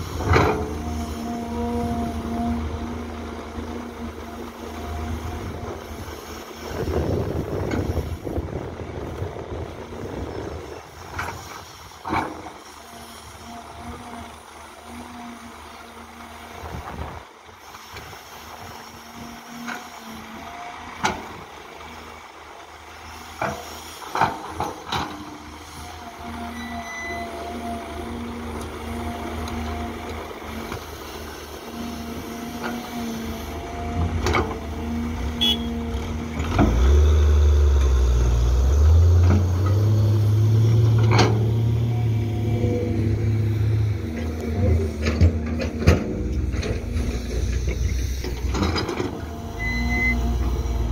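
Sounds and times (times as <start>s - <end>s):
hydraulic whine: 0.0s - 22.2s, 22.8s - 50.9s
excavator diesel engine: 0.0s - 50.9s.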